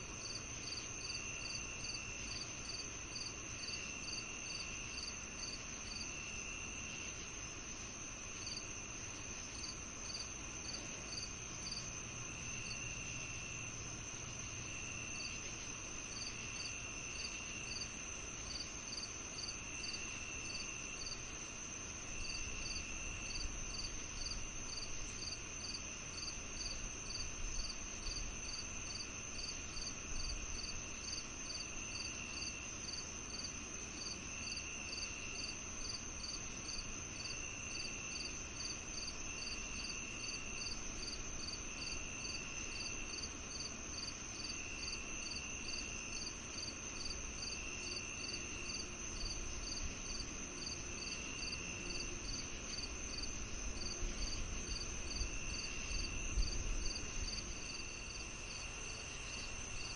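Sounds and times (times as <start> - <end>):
insect chirping: 0.0 - 59.9
crickets trilling: 0.1 - 59.9
low insect trill: 0.1 - 59.9.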